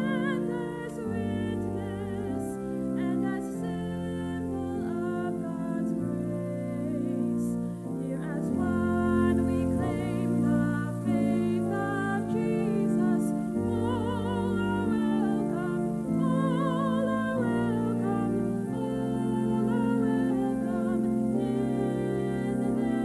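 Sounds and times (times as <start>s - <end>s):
person singing hymn with vibrato: 0.0s - 23.0s
sustained keyboard chords: 0.0s - 23.0s.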